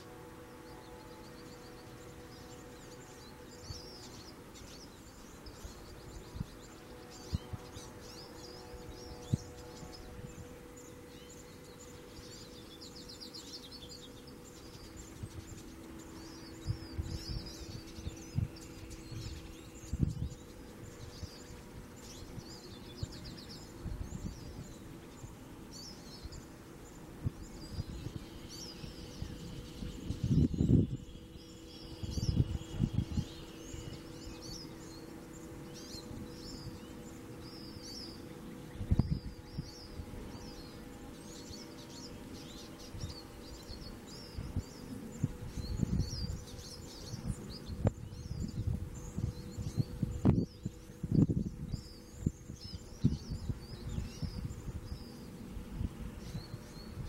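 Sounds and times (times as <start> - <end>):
bird twittering chirps and trills: 0.0 - 57.0
low hum: 0.0 - 57.0.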